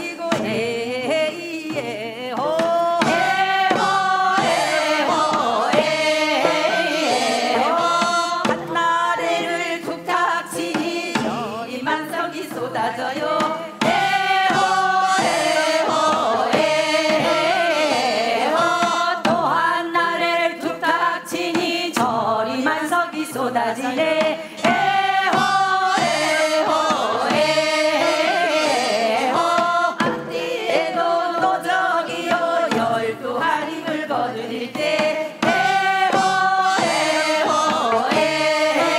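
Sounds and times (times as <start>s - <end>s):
group singing folk song: 0.0s - 38.9s
steady percussion beat: 0.0s - 38.9s.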